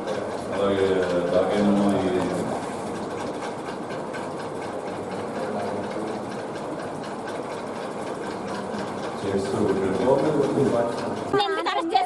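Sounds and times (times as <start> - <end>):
steady mechanical whirr: 0.0 - 12.0.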